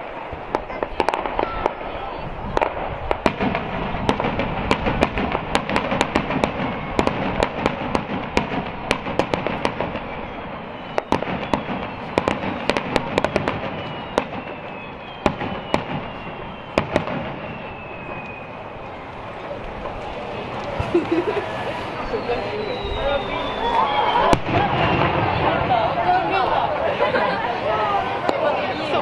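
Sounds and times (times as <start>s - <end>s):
fireworks cracking and banging: 0.0s - 29.0s.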